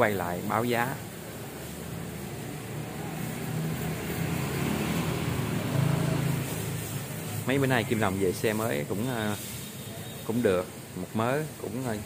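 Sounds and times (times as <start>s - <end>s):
motorbike traffic passing: 0.0s - 12.0s.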